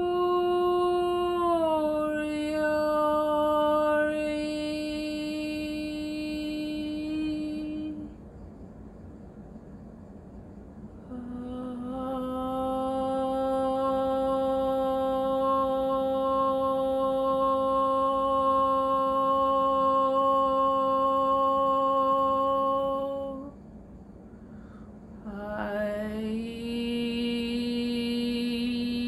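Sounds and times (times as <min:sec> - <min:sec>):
woman humming a long note: 0:00.0 - 0:08.2, 0:11.0 - 0:23.6, 0:25.2 - 0:29.0.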